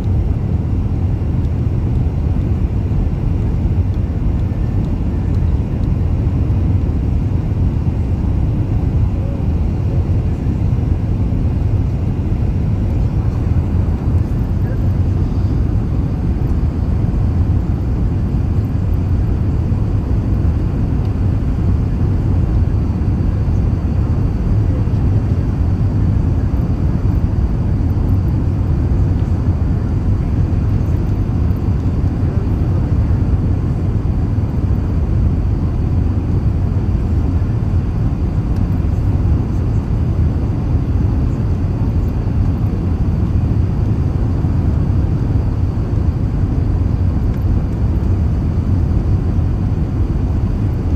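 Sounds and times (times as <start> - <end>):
airliner rumble in flight: 0.0 - 50.9.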